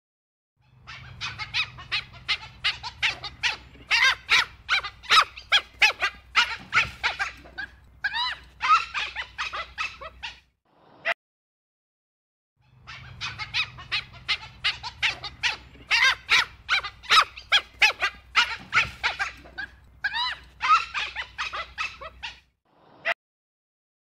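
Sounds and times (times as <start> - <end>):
wild dog high-pitched calls: 0.6 - 10.5, 12.6 - 23.2.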